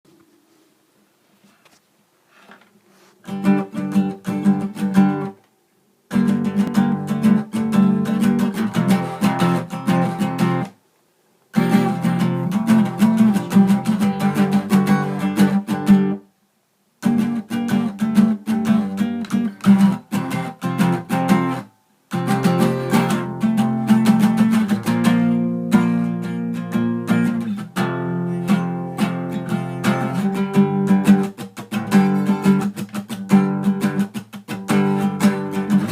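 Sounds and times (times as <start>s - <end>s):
acoustic guitar chords: 3.2s - 5.4s, 6.1s - 10.8s, 11.5s - 16.3s, 17.0s - 35.9s.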